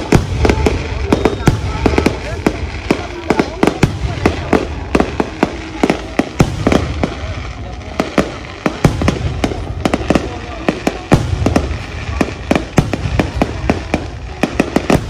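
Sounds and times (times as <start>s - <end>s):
distant fireworks rumble: 0.0s - 15.0s
fireworks bangs: 0.0s - 15.0s.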